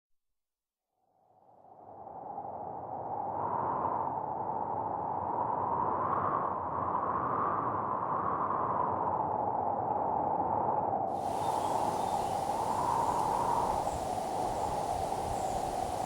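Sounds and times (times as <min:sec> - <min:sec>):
wind rushing and whistling: 0:03.1 - 0:16.0.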